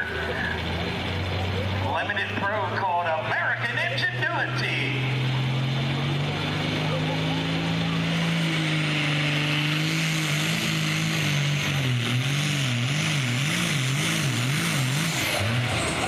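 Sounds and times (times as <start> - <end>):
diesel engine running hard: 0.0 - 16.0.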